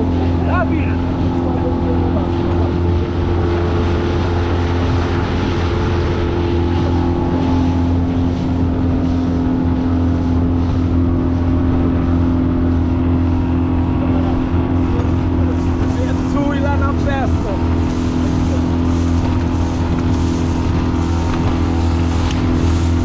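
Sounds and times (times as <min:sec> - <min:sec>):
outboard motor running: 0:00.0 - 0:23.0
water rushing: 0:00.0 - 0:23.0
wind: 0:00.0 - 0:23.0.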